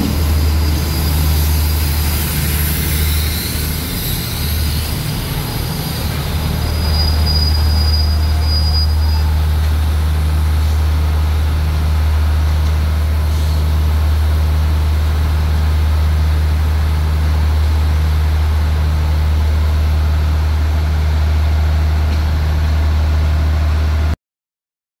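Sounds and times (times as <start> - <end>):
diesel train engine idling: 0.0 - 24.2.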